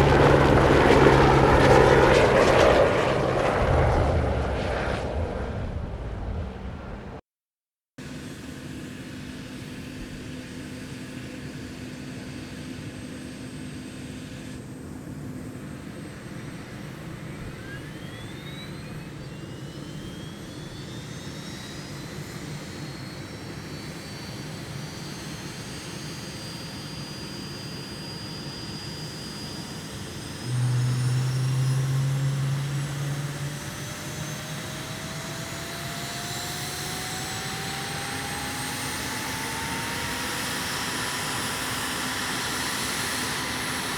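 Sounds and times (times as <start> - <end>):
helicopter engine starting up: 0.0 - 6.6, 8.0 - 43.9.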